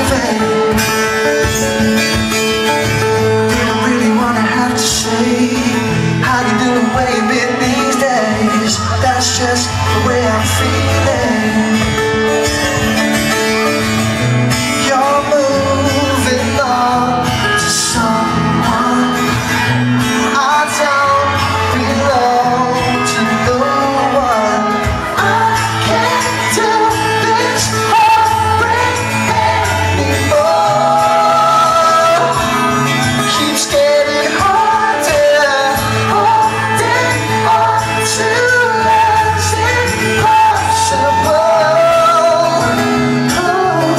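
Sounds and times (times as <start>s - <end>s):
bass: 0.0s - 43.9s
drums: 0.0s - 43.9s
guitar: 0.0s - 43.9s
male lead vocal: 0.0s - 43.9s.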